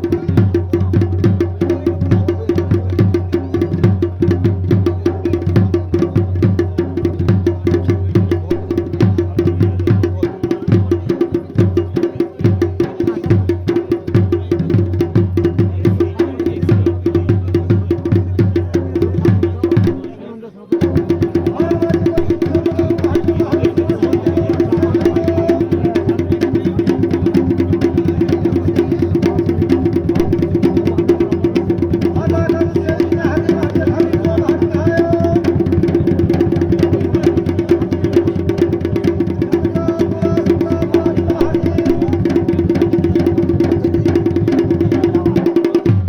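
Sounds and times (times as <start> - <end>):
drums playing fast rhythm: 0.0 - 46.0.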